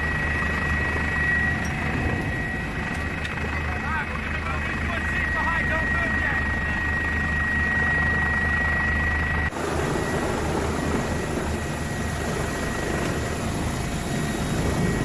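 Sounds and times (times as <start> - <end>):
helicopter drone with high whine: 0.0 - 15.0.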